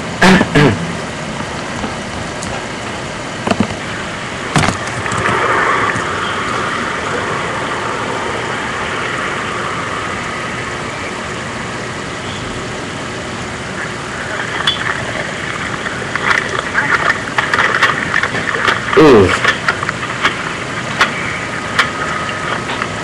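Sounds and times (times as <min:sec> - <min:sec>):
vehicle engine hum and hiss: 0:00.0 - 0:23.0.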